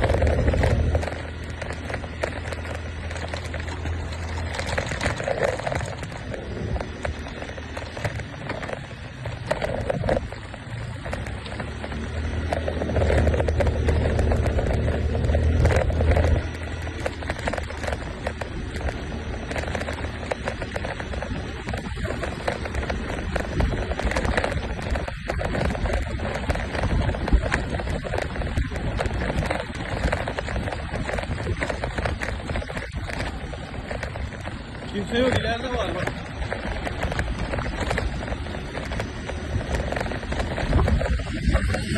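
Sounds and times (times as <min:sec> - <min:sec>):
small motorbike engine running: 0:00.0 - 0:41.9.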